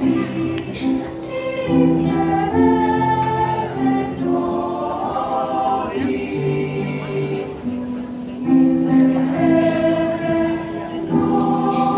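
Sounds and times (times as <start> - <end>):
children's choir singing: 0.0 - 11.9.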